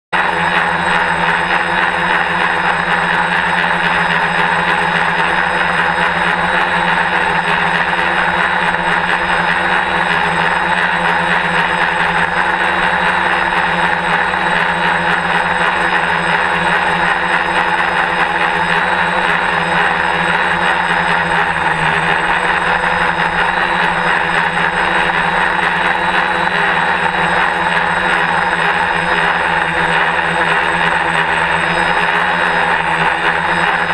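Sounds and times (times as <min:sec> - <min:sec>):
quadcopter motors whining: 0:00.2 - 0:33.9.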